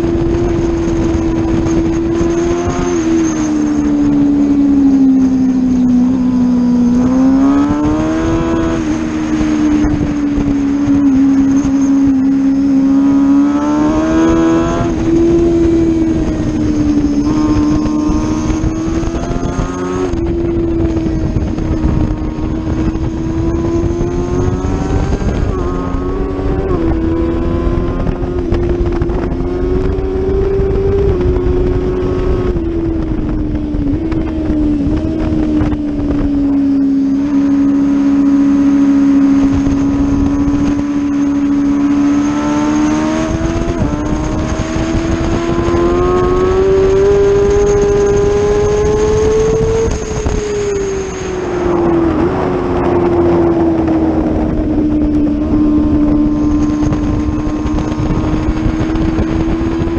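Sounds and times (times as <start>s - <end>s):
motorcycle engine revving high: 0.0s - 59.9s
wind rush: 0.0s - 59.9s.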